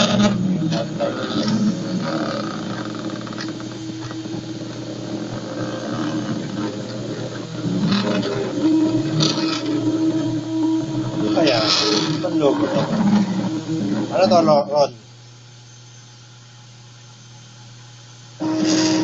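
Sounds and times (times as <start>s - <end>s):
stepper motors buzzing: 0.0s - 16.0s, 18.4s - 19.0s
hissy bursts: 0.0s - 19.0s.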